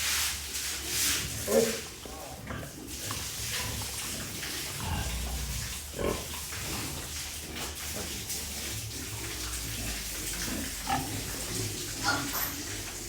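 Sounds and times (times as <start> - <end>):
running water: 0.0 - 13.0
pigs grunting: 1.2 - 13.0.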